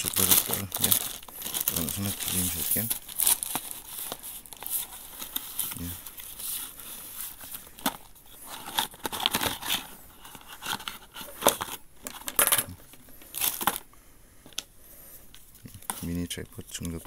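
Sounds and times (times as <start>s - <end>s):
cardboard and paper rustling: 0.0s - 13.8s.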